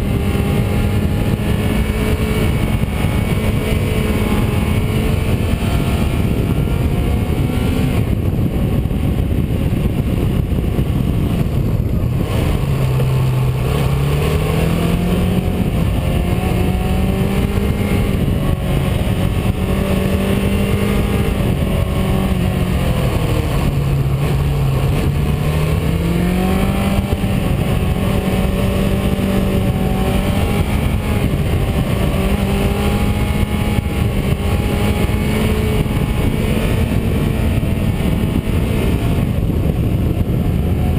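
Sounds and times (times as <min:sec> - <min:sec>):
car engine running: 0:00.0 - 0:40.9
road and wind noise: 0:00.0 - 0:40.9.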